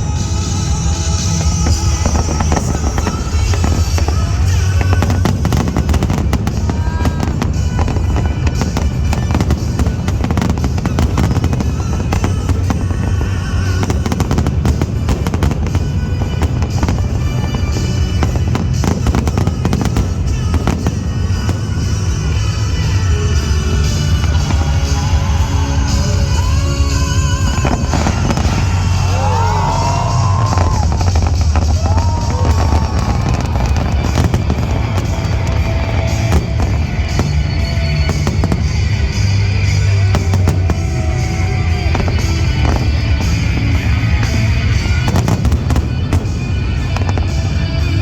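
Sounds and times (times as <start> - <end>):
fireworks bursting: 0.0 - 48.0
loud music: 0.0 - 48.0.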